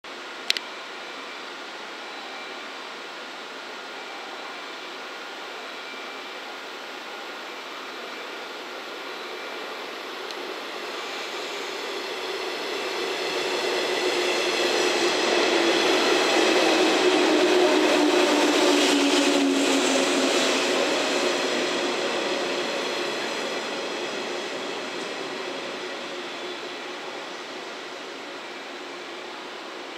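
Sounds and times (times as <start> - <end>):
electric train passing: 0.1 - 29.9
steady train tones: 0.1 - 29.9.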